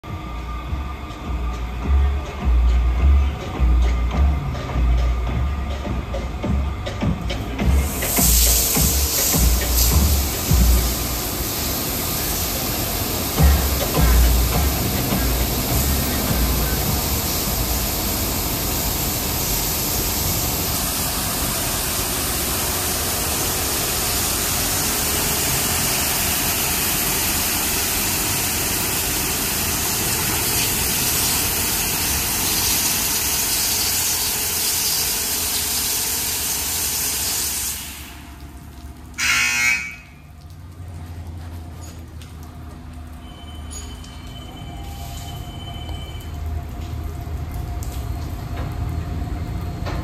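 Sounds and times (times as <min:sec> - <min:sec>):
water jets spraying car: 0:00.1 - 0:50.0.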